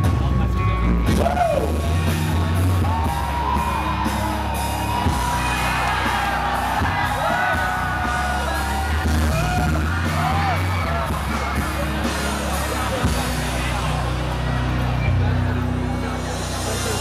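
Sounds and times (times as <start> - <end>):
live rock band: 0.0 - 17.0
audience yelling and whooping: 1.1 - 15.7.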